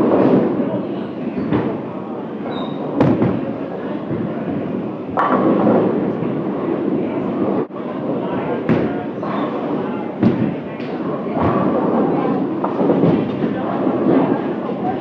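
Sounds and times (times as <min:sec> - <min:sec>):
rumble of bowling balls: 0:00.0 - 0:15.0.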